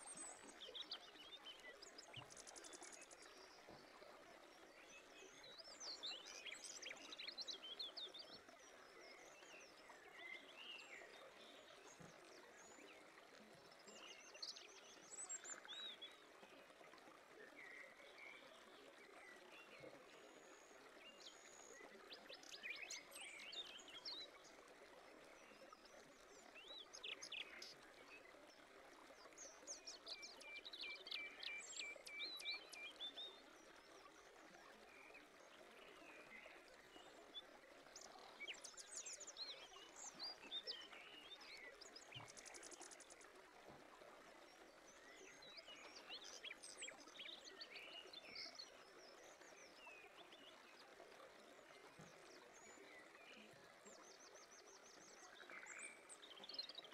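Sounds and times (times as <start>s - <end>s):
faint birdsong chirps: 0.0s - 56.9s.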